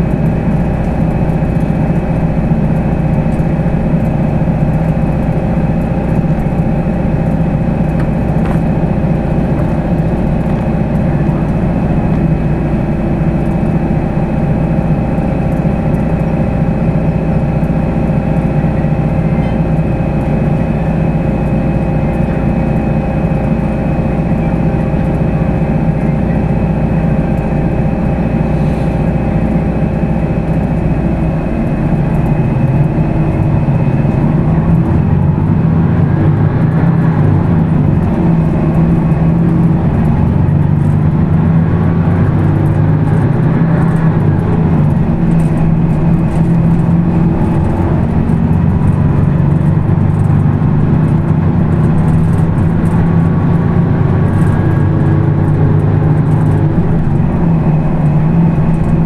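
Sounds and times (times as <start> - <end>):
bus engine droning: 0.0 - 59.0.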